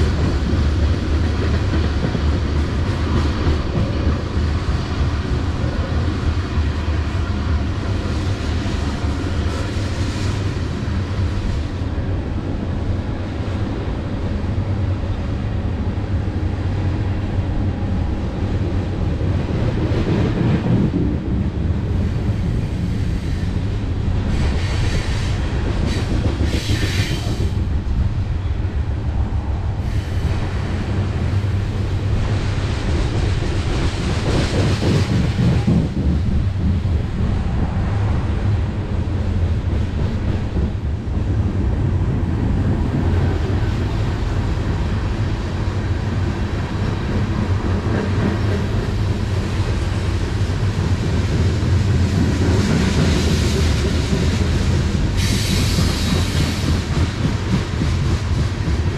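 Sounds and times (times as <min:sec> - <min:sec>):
train wheels on rails: 0:00.0 - 0:58.9.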